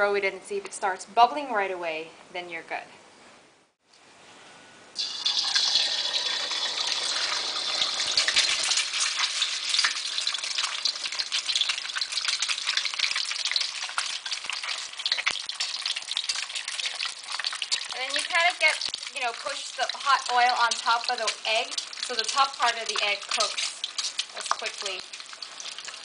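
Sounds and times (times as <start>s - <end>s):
egg sizzling in hot oil: 5.0s - 26.0s.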